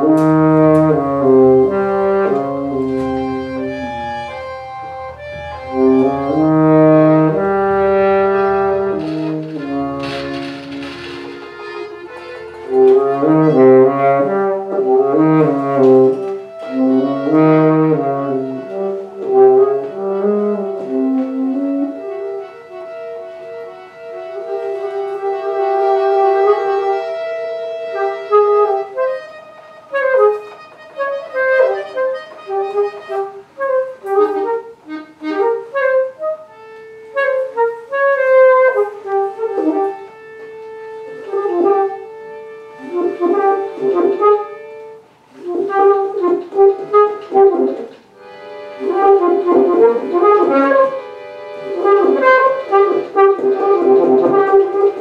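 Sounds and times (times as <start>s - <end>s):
accordion: 0.0s - 55.0s
saxophone: 0.0s - 55.0s.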